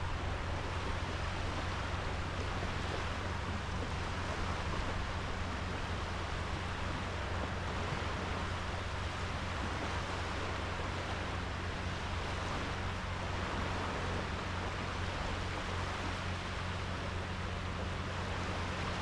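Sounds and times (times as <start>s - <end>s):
waves washing onto sandy beach: 0.0s - 19.0s.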